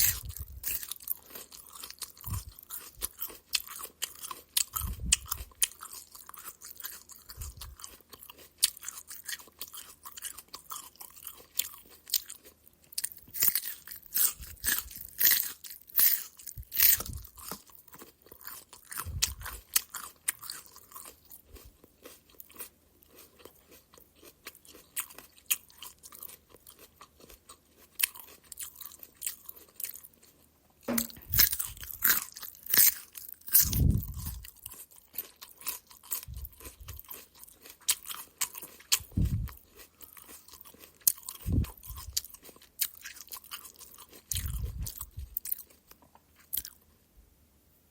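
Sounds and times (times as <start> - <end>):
person crunching raw carrot: 0.0 - 46.8.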